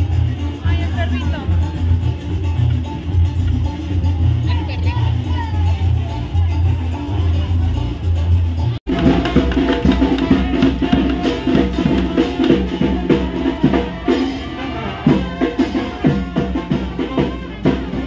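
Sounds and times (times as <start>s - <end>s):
music with steady drum beat: 0.0s - 18.0s.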